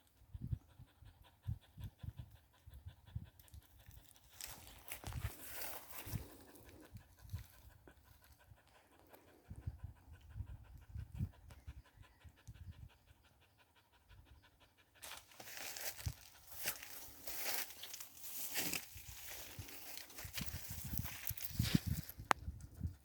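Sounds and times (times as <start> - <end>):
dog panting: 0.1 - 23.0.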